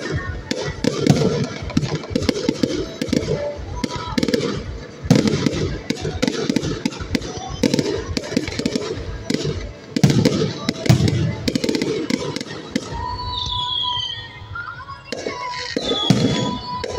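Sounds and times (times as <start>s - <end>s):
fireworks bursting and crackling: 0.0s - 16.9s.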